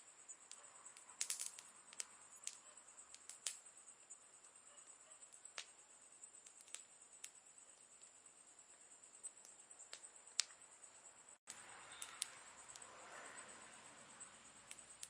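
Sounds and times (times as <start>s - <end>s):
campfire crackling: 0.0s - 15.0s
faint steady high hiss: 0.0s - 15.0s.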